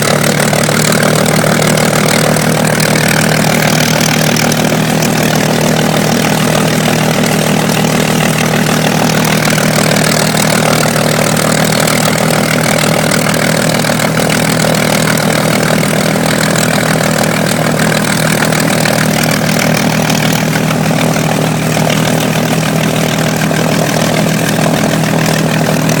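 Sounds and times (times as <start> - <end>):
piston aircraft engine idling: 0.0 - 26.0.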